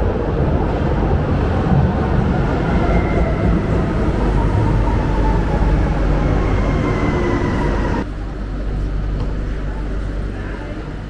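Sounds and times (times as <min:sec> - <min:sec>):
falling train whine: 0:00.0 - 0:11.0
train wheels rumbling on rail: 0:00.0 - 0:11.0.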